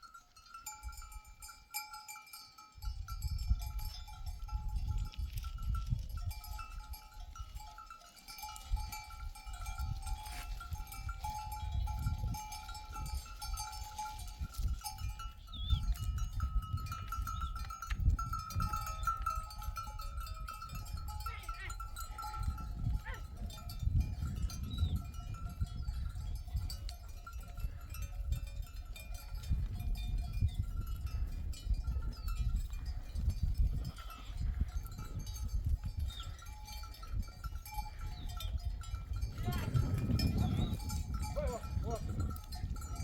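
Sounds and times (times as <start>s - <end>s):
sheep bells jingling: 0.0s - 43.0s
wind rumbling on microphone: 2.8s - 43.0s.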